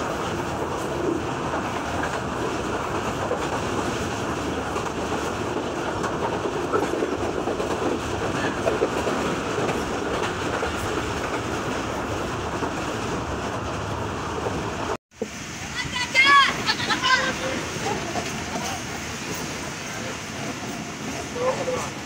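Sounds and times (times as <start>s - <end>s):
train wheels clattering on rails: 0.0s - 15.4s, 16.2s - 22.0s.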